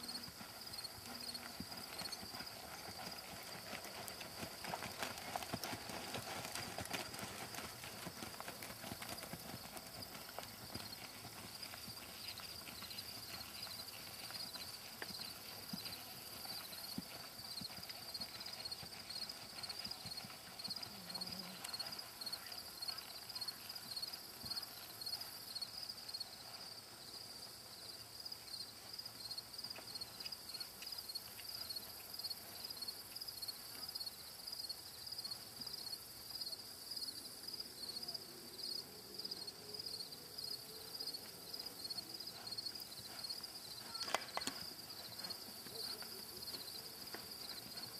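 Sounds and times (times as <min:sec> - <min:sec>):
hoofbeats on soft dirt: 0:00.0 - 0:27.3, 0:27.9 - 0:34.2, 0:41.1 - 0:47.9.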